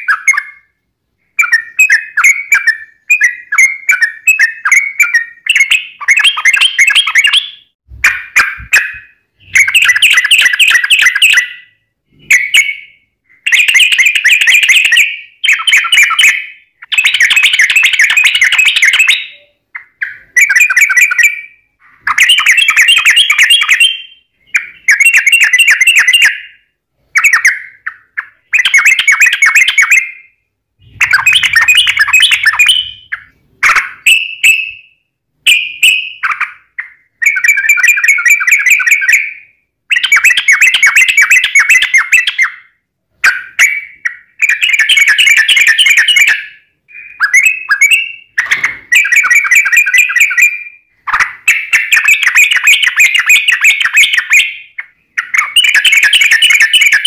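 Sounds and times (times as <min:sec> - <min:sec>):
bird singing trilled phrases: 0:00.0 - 0:57.0.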